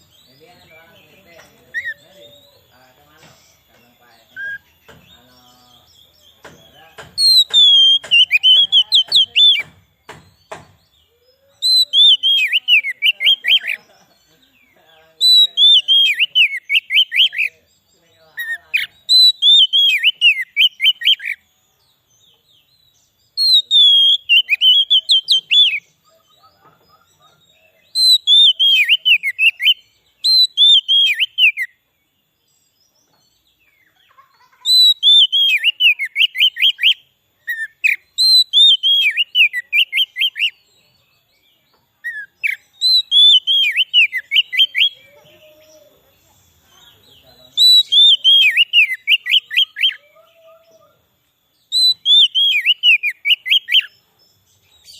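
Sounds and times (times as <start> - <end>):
bird song whistled phrases: 1.7 - 13.8, 14.4 - 31.8, 33.5 - 54.9.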